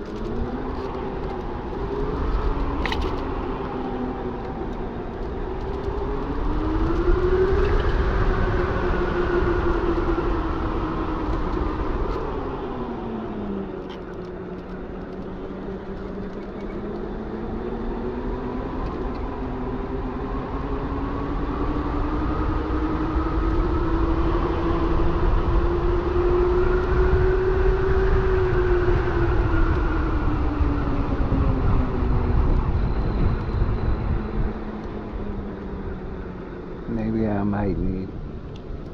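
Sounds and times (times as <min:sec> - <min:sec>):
low wind rumble: 0:00.0 - 0:38.9.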